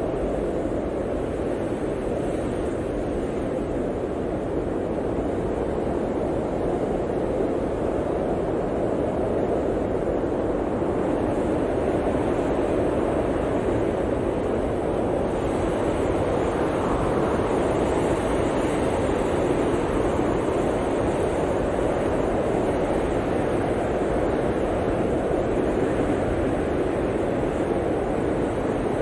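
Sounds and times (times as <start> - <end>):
blizzard wind blowing: 0.0 - 29.0.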